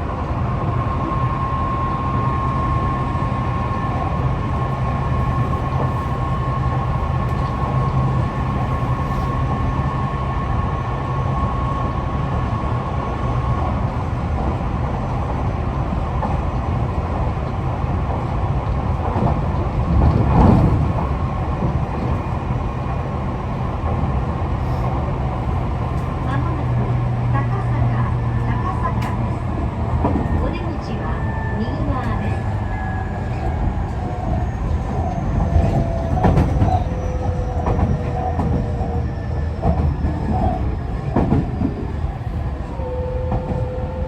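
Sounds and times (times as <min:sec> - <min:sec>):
train wheel and rail rumble: 0:00.0 - 0:44.0.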